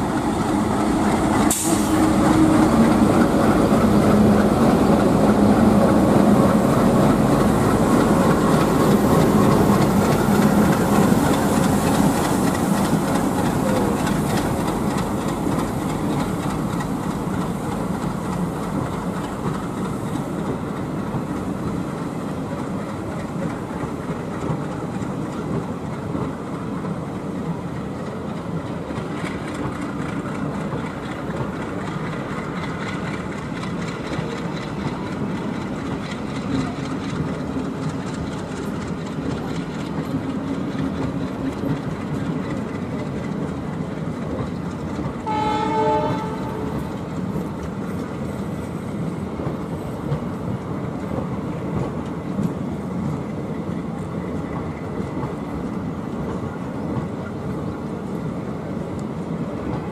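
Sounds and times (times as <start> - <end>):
wheels clattering over rails: 0.0 - 58.2
diesel locomotive engines: 0.0 - 59.9.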